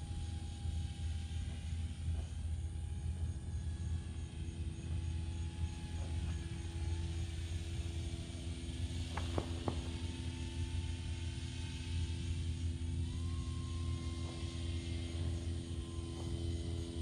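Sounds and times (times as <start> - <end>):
electric motor and propeller humming: 0.0 - 17.0.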